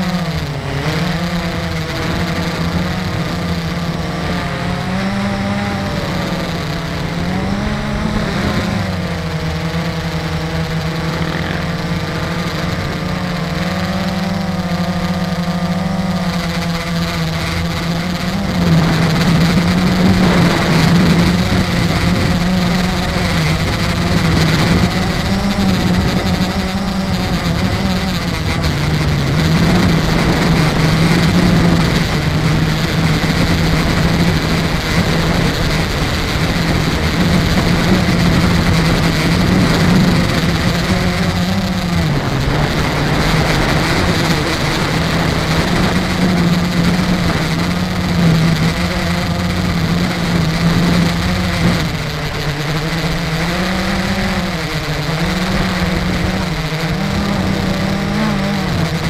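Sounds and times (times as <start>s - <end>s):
drone propellers whirring: 0.0s - 59.0s.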